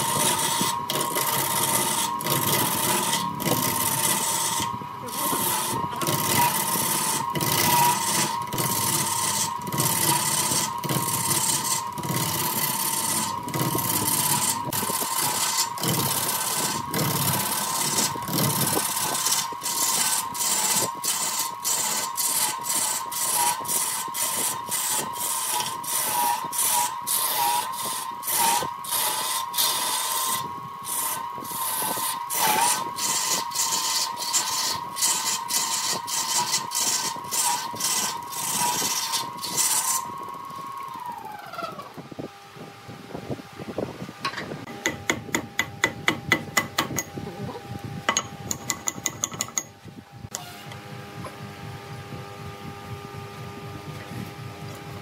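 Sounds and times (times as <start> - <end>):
turning tool cutting wood: 0.0 - 42.0, 44.6 - 51.3
wood lathe whine: 0.0 - 55.0.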